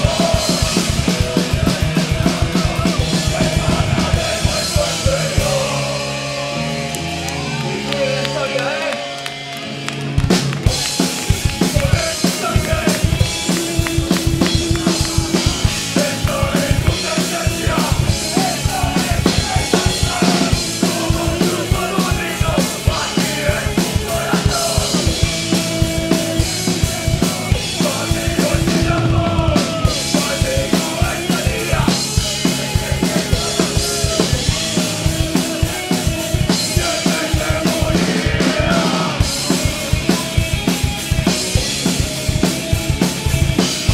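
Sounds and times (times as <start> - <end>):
live band playing: 0.0 - 43.9.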